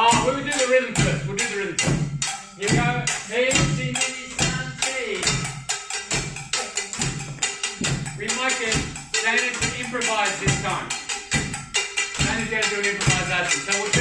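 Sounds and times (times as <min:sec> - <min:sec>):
struck percussion beat: 0:00.0 - 0:14.0
voices chanting a rhythm song: 0:00.0 - 0:14.0.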